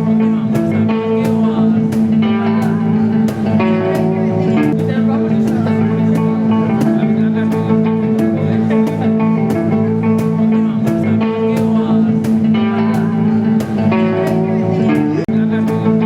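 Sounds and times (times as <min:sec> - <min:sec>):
guitar background music: 0:00.0 - 0:16.0
steady beat: 0:00.0 - 0:16.0.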